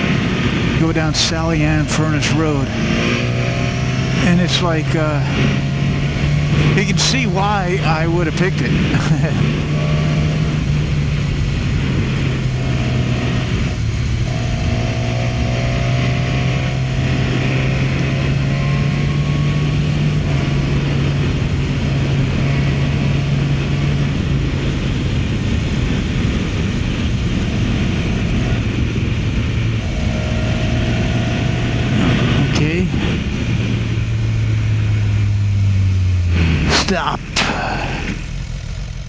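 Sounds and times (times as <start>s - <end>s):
motorcycle engine cruising: 0.0s - 39.0s
road and wind noise: 0.0s - 39.0s.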